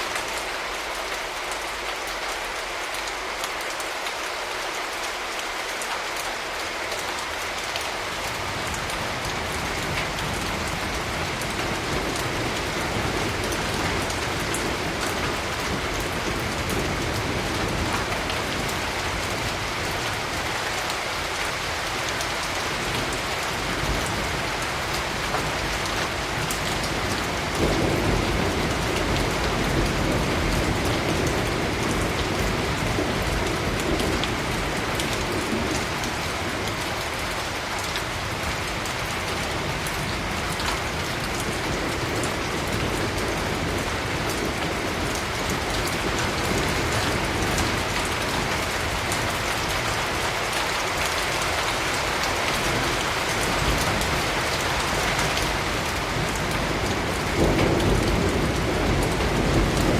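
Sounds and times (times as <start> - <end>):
steady rain falling: 0.0 - 59.9
thunder rumbling: 8.4 - 50.2, 52.0 - 59.9.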